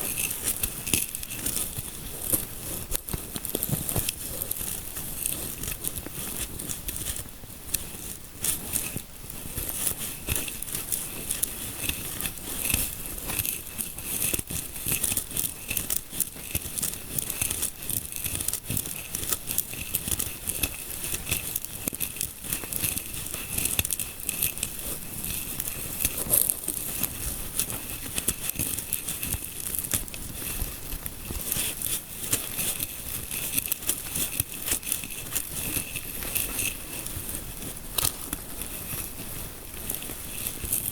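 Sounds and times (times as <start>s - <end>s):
fingertips scratching through hair: 0.0s - 40.9s.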